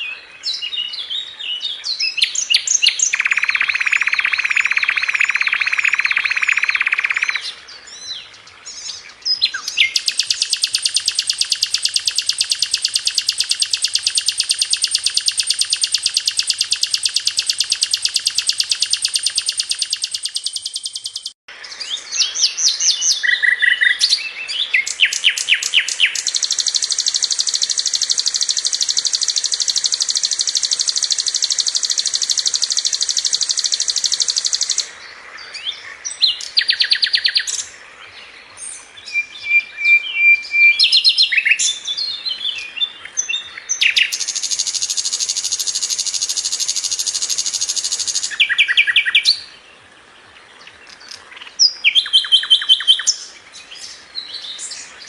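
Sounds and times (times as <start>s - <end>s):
bird fast trilling song: 0.0s - 35.0s, 35.7s - 37.8s, 38.6s - 49.6s, 50.8s - 55.0s.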